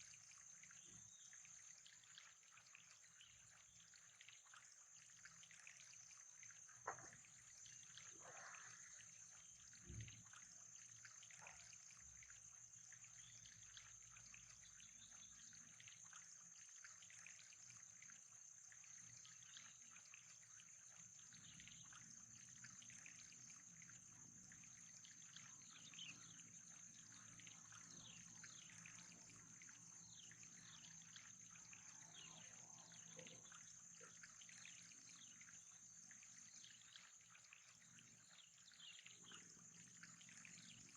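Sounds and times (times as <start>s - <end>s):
faint trickling water: 0.0s - 40.9s.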